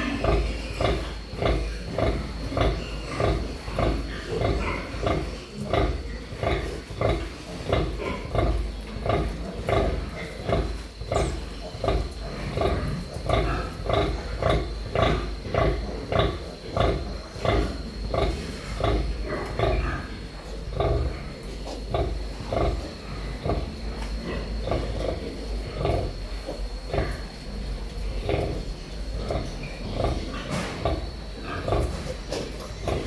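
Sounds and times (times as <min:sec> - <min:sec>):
pigs grunting: 0:00.0 - 0:33.0.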